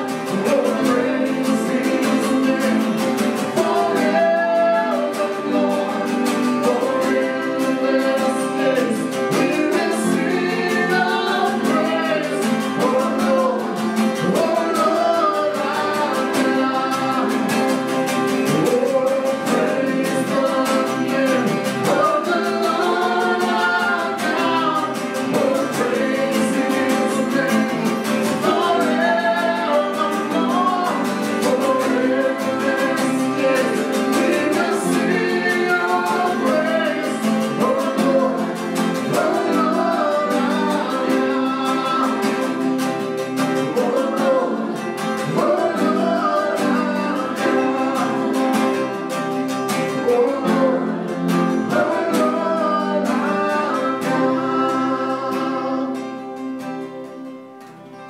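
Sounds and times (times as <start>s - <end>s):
person singing worship song: 0.0s - 57.0s
strummed acoustic guitar: 0.0s - 58.0s.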